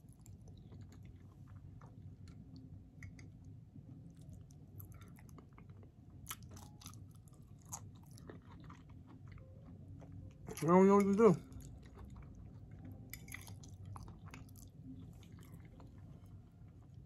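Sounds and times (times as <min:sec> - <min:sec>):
chewing soft food: 0:00.0 - 0:17.0.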